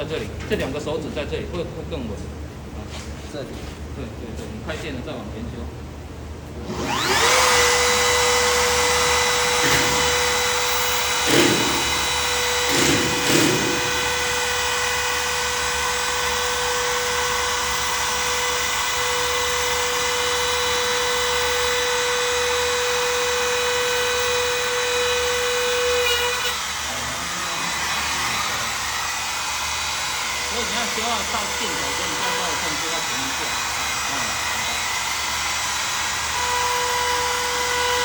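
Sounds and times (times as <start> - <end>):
trim router whining: 6.5 - 38.0
router bit rasping: 6.6 - 38.0.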